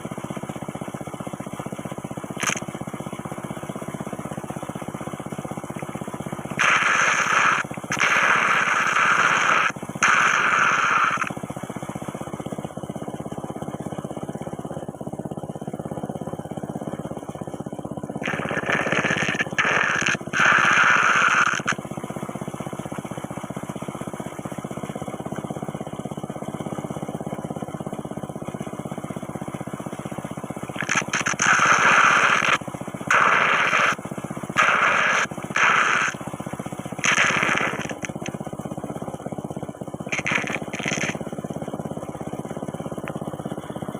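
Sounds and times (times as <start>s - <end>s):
whirlpool slurping gurgle: 0.0s - 43.9s.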